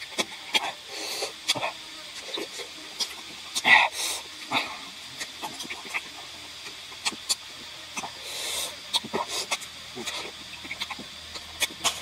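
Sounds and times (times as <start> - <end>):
lip smacks while chewing: 0.0 - 4.5, 5.2 - 8.2, 8.8 - 12.0
person slurping: 0.0 - 12.0.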